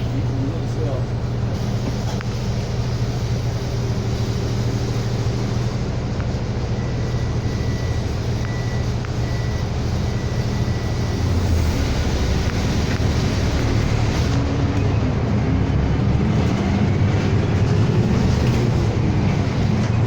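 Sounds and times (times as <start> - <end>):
bus engine humming: 0.0 - 20.0.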